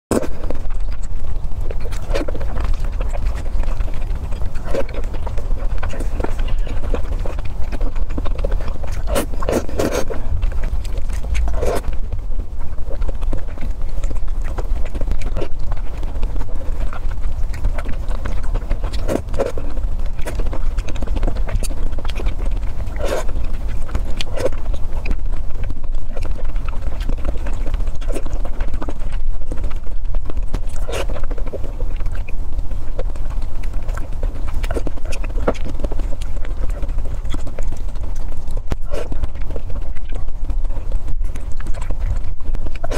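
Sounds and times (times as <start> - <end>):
clicky mouth noises: 0.1 - 42.9
steady low hum: 0.1 - 42.9
wet chewing and lip smacks: 0.1 - 42.9.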